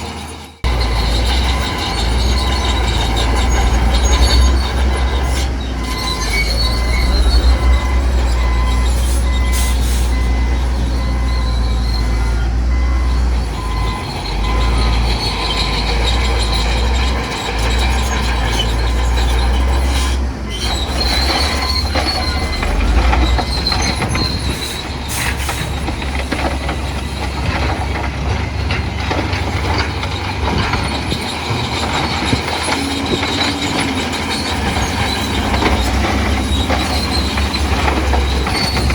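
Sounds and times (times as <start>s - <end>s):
deep diesel rumble: 0.0s - 38.9s
steel tracks squealing and clattering: 0.0s - 38.9s.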